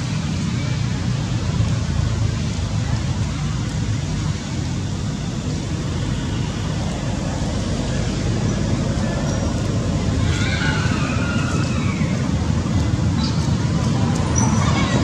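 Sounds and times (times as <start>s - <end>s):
low rumble of outdoor background noise: 0.0s - 15.0s.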